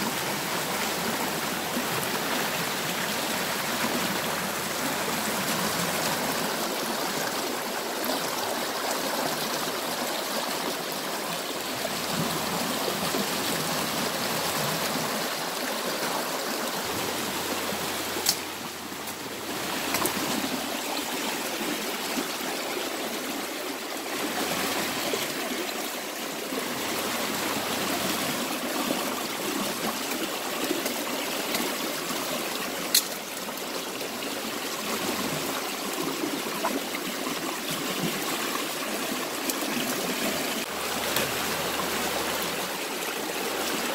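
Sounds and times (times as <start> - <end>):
river rushing over rocks: 0.0 - 43.9.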